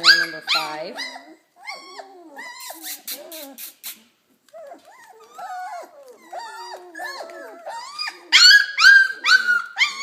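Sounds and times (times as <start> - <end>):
puppies whining: 0.0 - 10.0.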